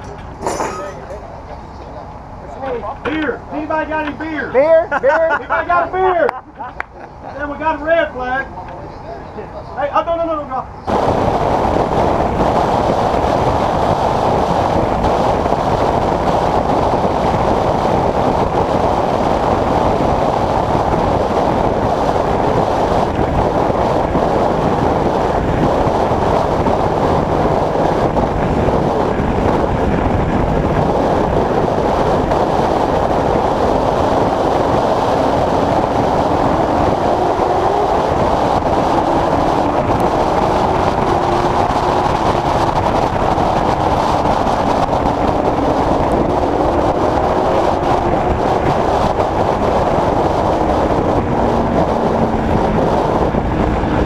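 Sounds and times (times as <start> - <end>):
race car engine and road noise: 0.0 - 54.0.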